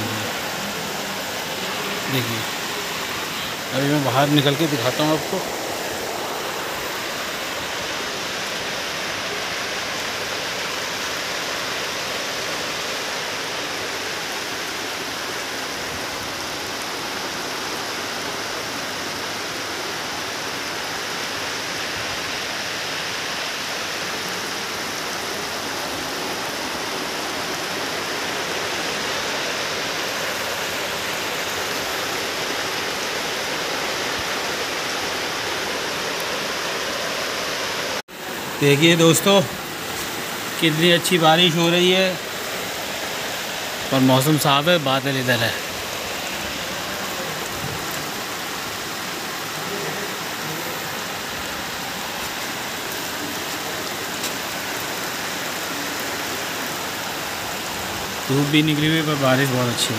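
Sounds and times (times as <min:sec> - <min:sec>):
heavy rain on pond water: 0:00.0 - 0:59.9.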